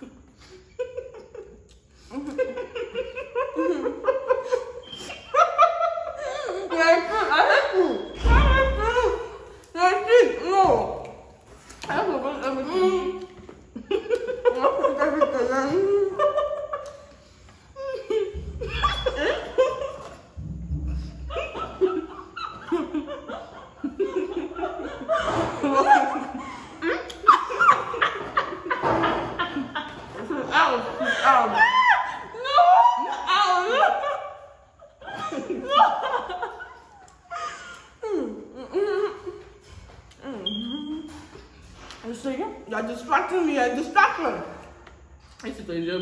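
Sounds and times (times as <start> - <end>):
women laughing: 0.0 - 10.8, 11.9 - 39.7.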